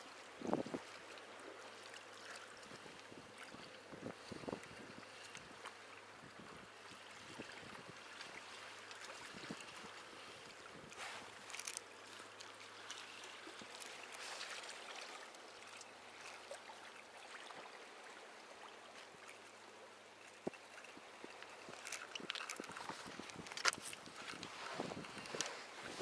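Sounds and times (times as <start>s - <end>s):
water lapping and sloshing: 0.0s - 26.0s.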